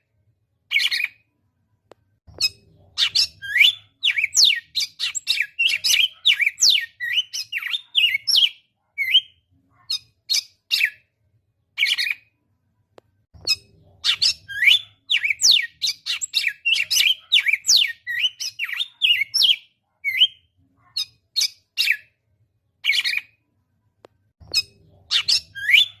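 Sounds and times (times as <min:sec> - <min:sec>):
songbird chirping and whistling: 0:00.7 - 0:01.3, 0:02.3 - 0:11.1, 0:11.8 - 0:12.3, 0:13.4 - 0:22.2, 0:22.8 - 0:23.4, 0:24.4 - 0:26.0.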